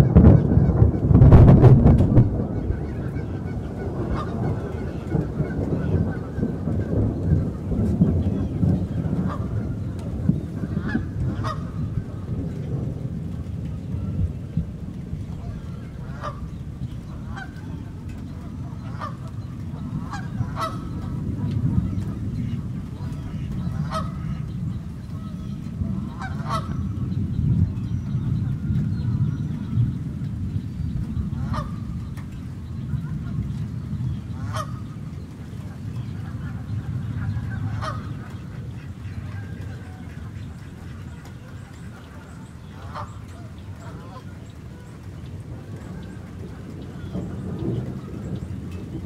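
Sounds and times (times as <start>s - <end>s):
rain falling on a lake: 0.0s - 49.0s
waterbird calls: 2.1s - 49.0s.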